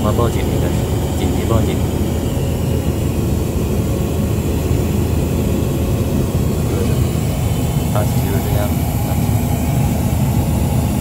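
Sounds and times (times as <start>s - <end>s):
airplane drone inside cabin: 0.0s - 11.0s.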